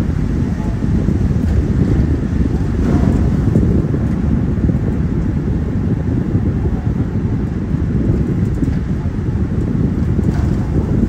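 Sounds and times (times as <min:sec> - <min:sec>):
road noise on wet road: 0:00.0 - 0:11.0
wind buffeting microphone: 0:00.0 - 0:11.0.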